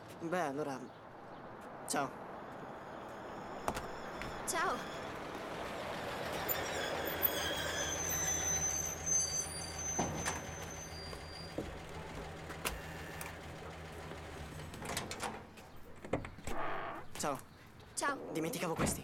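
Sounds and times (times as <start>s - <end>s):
distant traffic hum: 0.0s - 19.0s.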